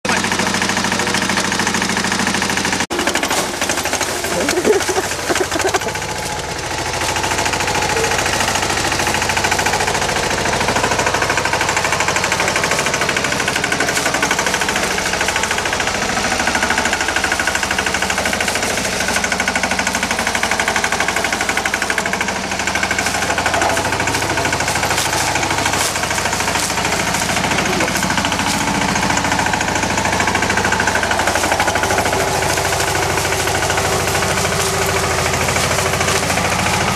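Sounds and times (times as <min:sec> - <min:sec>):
tractor engine clattering: 0:00.0 - 0:36.9.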